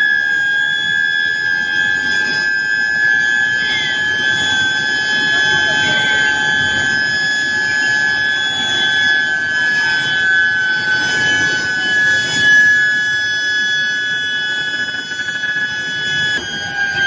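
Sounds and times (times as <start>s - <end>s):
furnace coils high-pitched whine: 0.0s - 17.0s.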